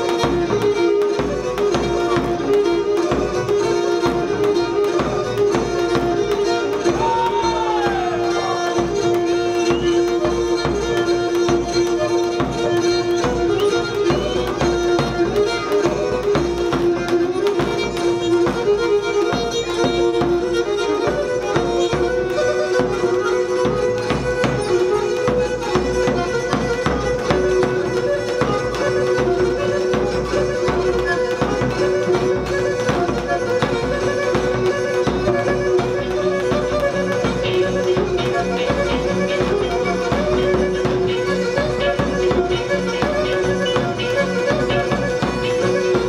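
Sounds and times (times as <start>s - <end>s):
bowed string instrument melody: 0.0s - 46.0s
folk dance music: 0.0s - 46.0s.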